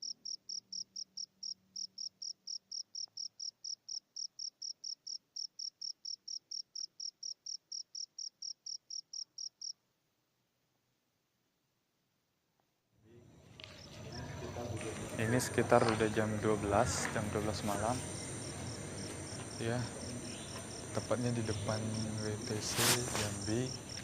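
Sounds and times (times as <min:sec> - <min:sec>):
cricket chirping: 0:00.0 - 0:09.8, 0:13.1 - 0:24.0.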